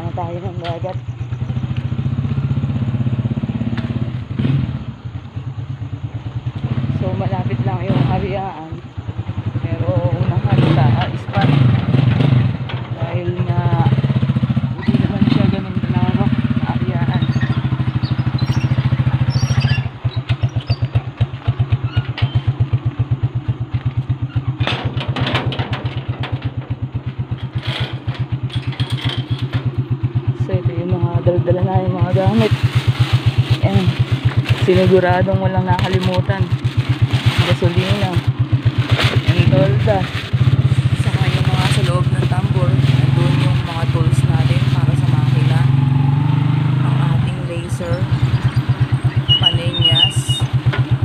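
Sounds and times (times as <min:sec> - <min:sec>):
small motorcycle engine running: 0:00.0 - 0:51.0.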